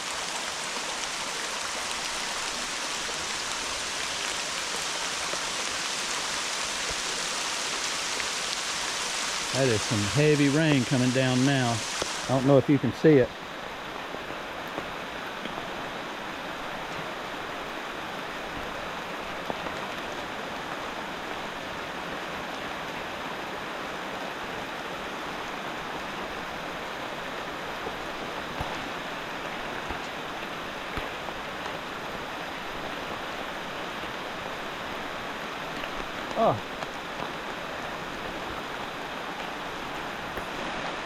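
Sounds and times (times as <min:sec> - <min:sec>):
creek rushing: 0:00.0 - 0:41.0
heavy rain falling: 0:00.0 - 0:41.0.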